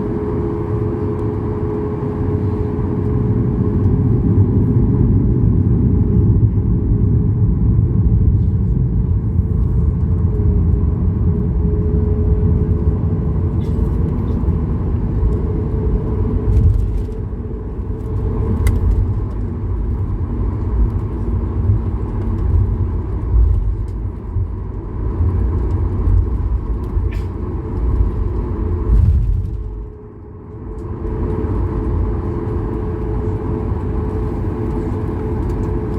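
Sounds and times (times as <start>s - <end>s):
heavy uneven rumble: 0.0s - 35.9s
jet engines humming: 0.0s - 35.9s.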